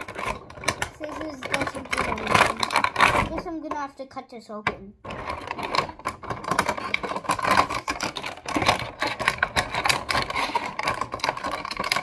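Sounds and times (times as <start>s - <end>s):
plastic packaging crackling: 0.0s - 3.6s, 5.1s - 12.0s
scissors cutting plastic: 0.0s - 3.6s, 5.1s - 12.0s.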